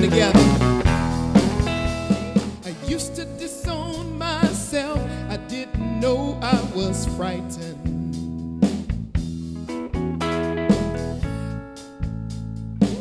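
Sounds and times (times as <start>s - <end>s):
bass: 0.0s - 13.0s
drums: 0.0s - 13.0s
guitar: 0.0s - 13.0s.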